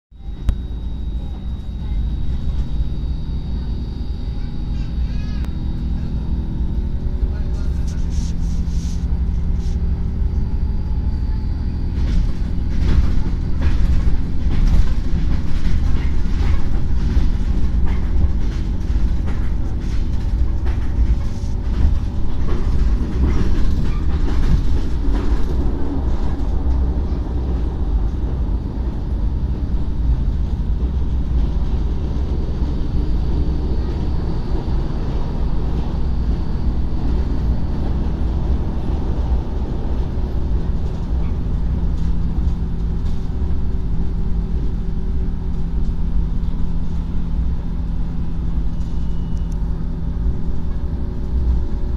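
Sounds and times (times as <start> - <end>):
train running rumble: 0.1 - 51.9.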